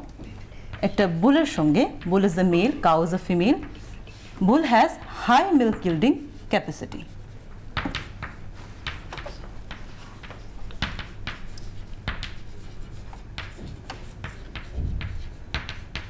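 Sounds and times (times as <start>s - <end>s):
chalk tapping and scratching: 0.7s - 16.0s.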